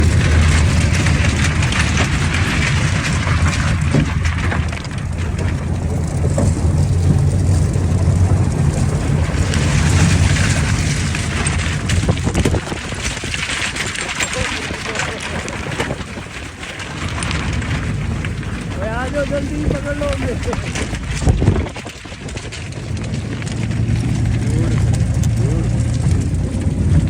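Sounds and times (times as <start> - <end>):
off-road vehicle engine driving: 0.0 - 27.0.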